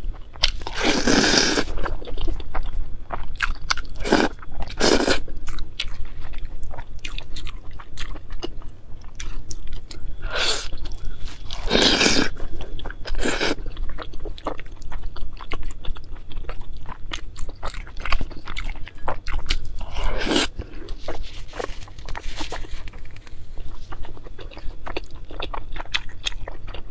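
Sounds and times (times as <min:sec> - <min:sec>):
person chewing: 0:00.0 - 0:26.9.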